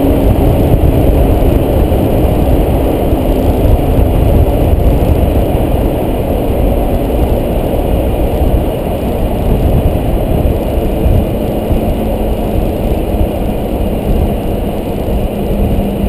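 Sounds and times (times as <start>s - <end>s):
road and wind rumble: 0.0s - 16.0s.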